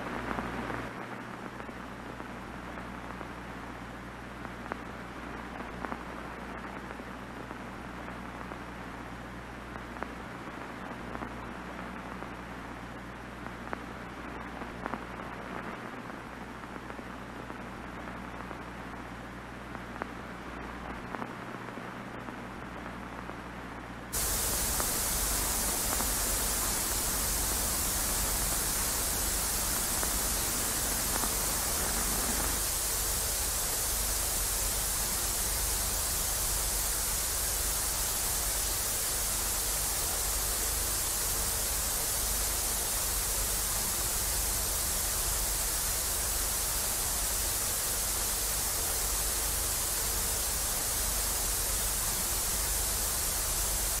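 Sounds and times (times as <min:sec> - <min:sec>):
television static hiss: 0:00.0 - 0:54.0.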